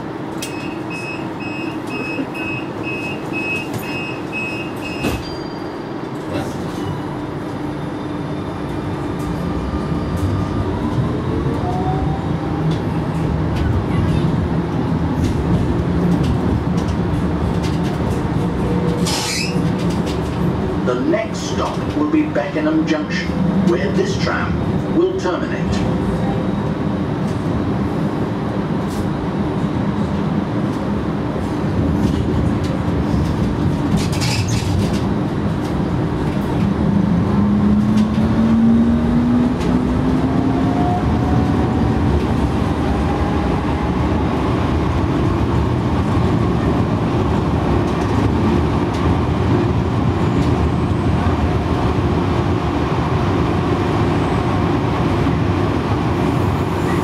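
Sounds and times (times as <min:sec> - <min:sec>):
tram wheels rumbling on rail: 0:00.0 - 0:57.0.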